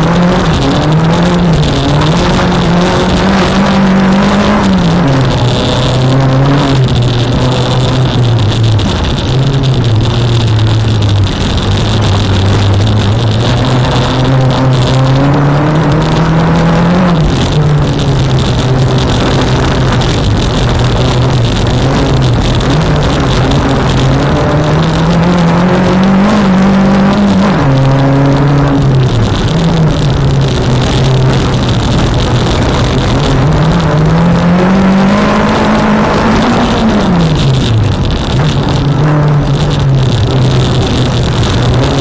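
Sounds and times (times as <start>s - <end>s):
rally car engine accelerating: 0.0s - 42.0s.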